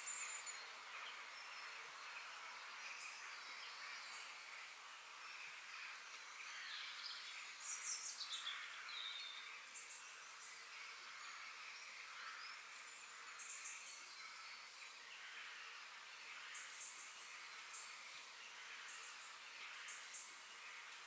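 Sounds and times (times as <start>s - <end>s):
high hum of insects: 0.0s - 21.0s
songbirds chirping and trilling: 0.0s - 21.0s.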